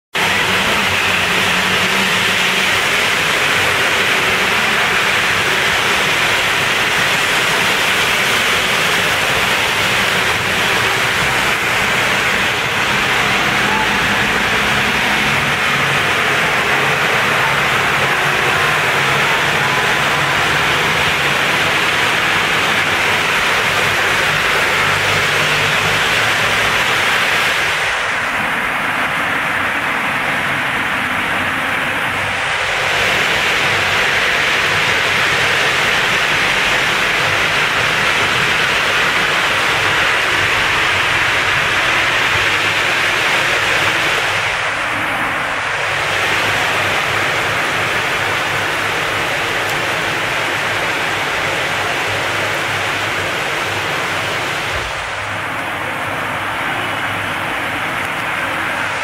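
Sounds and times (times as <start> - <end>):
heavy rain pouring on street: 0.0 - 59.0
low hum of vehicle engines: 0.2 - 59.0.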